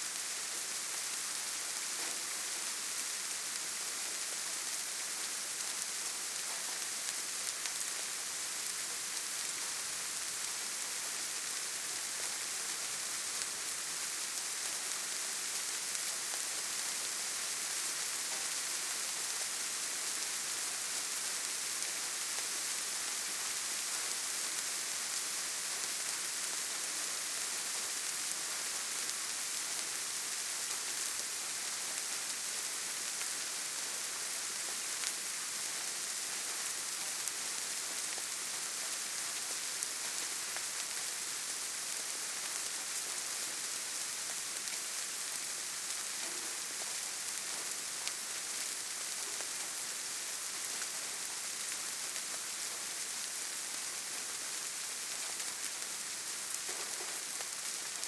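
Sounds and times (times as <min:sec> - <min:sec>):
rain on leaves and ground: 0:00.0 - 0:58.0.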